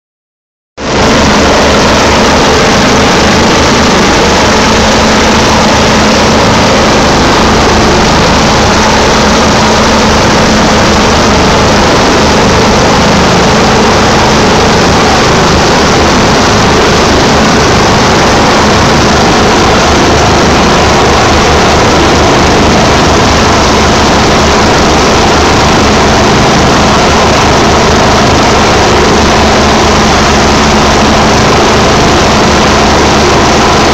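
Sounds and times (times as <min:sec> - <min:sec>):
helicopter rotor chop: 0:00.8 - 0:33.9.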